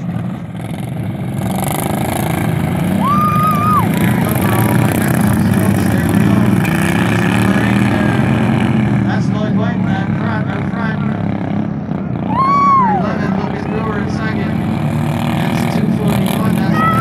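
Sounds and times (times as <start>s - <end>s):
lawnmower engines running hard: 0.0s - 17.0s.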